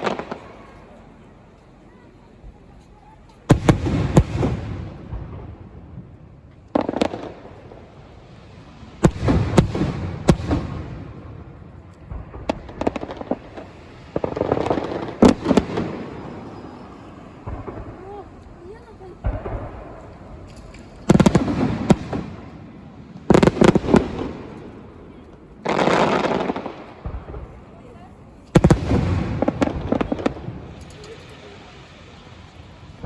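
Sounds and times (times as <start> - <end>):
fireworks bursting with booms: 0.0 - 1.2, 3.4 - 33.0.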